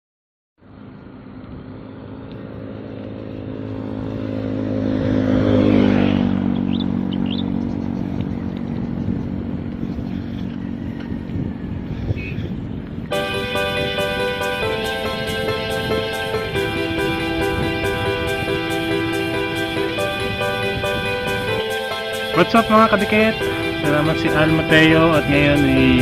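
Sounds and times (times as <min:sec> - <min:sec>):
road noise: 0:00.6 - 0:26.0
vehicle engine passing by: 0:00.6 - 0:26.0.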